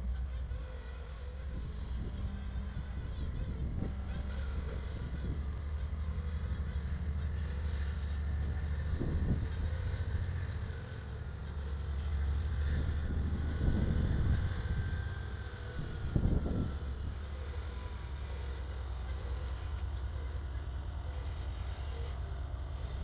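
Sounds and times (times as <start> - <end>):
faint high squeal: 0.0 - 23.0
train clanks: 0.0 - 23.0
train wheels rumbling: 0.0 - 23.0.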